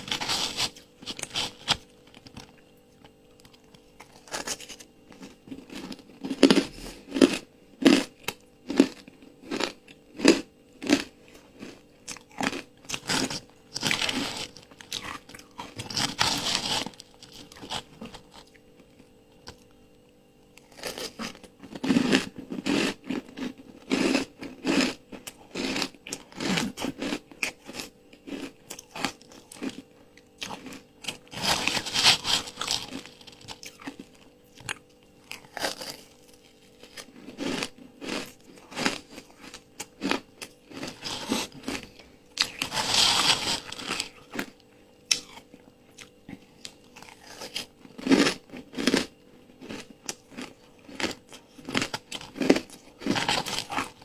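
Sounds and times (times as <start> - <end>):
crunchy ice chewing: 0.0 - 19.8, 20.5 - 54.0.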